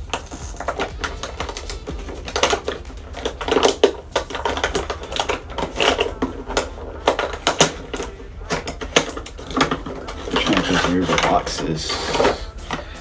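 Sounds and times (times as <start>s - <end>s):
packaging clicks and crinkles: 0.0s - 13.0s.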